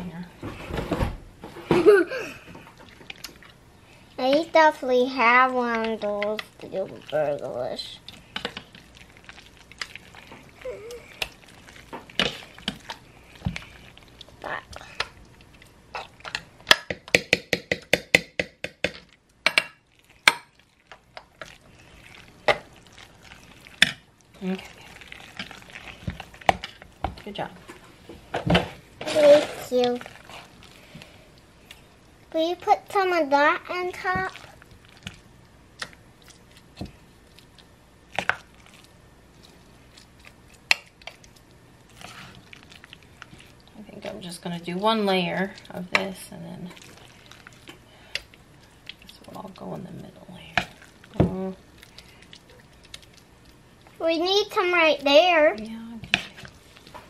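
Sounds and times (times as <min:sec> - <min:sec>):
wet squishes of cheese filling: 0:02.6 - 0:17.1, 0:18.9 - 0:57.0.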